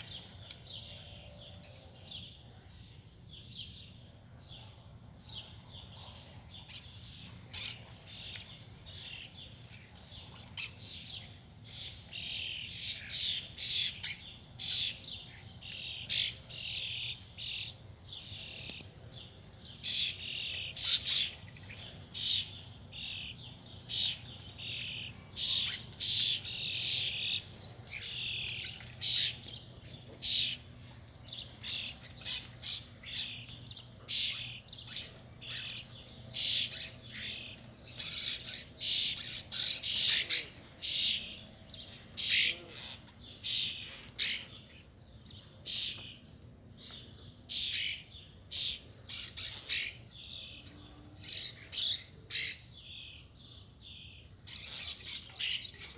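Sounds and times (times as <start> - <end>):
starlings chirping and squawking: 5.2 - 55.9.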